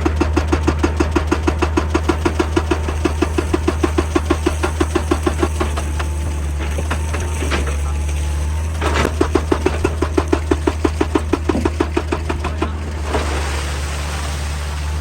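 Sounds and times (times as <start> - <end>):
excavator engine running: 0.0 - 15.0
hydraulic rock breaker hammering: 0.0 - 15.0.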